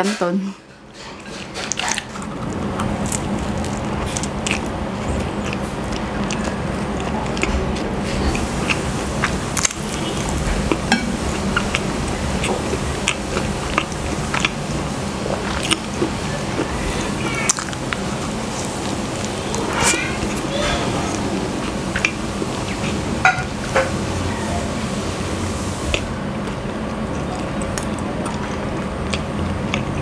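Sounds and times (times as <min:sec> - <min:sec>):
chewing with wet mouth clicks: 0:01.3 - 0:20.5, 0:21.1 - 0:24.0, 0:25.9 - 0:30.0.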